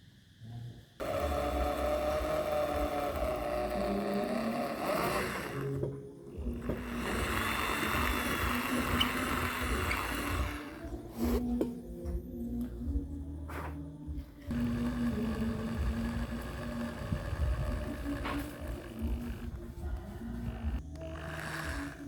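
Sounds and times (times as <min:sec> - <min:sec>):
motor running: 0:01.0 - 0:11.7, 0:14.5 - 0:22.0.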